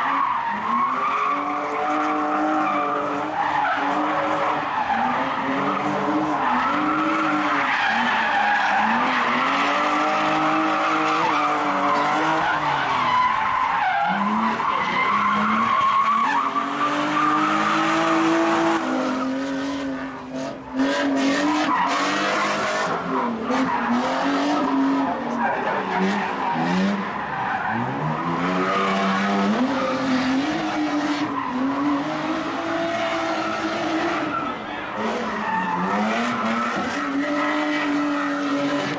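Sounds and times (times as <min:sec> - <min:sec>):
car engines revving hard: 0:00.0 - 0:38.9
tires skidding and squealing: 0:00.0 - 0:38.9.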